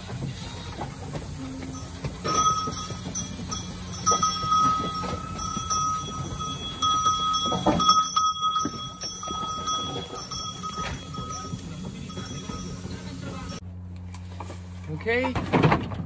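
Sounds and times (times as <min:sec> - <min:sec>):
hooves clattering on wooden floor: 0:00.0 - 0:13.6
steady high whine: 0:00.0 - 0:13.7.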